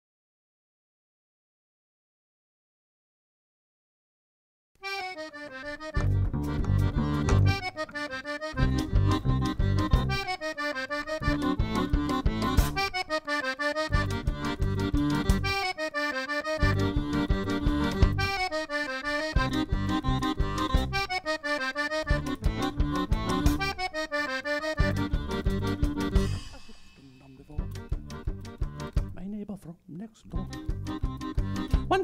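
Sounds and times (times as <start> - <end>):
accordion music: 4.8 - 29.6, 30.2 - 32.0.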